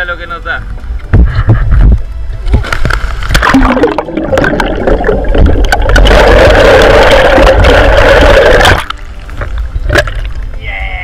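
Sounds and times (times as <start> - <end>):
underwater rushing and gurgling: 1.1 - 10.6.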